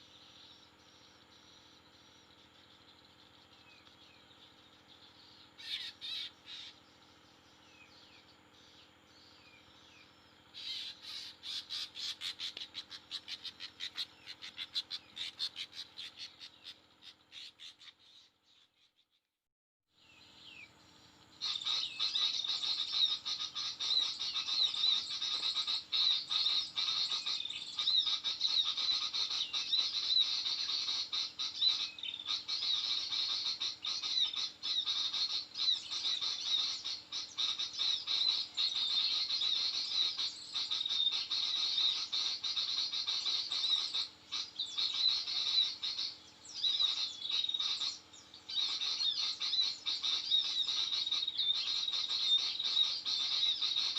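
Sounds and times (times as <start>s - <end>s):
birds chirping and twittering: 0.0s - 19.2s, 20.0s - 53.9s.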